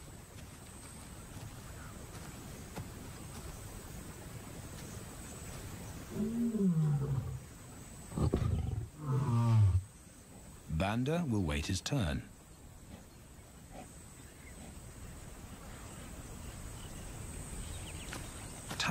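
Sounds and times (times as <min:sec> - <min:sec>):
low steady background: 0:00.0 - 0:18.9.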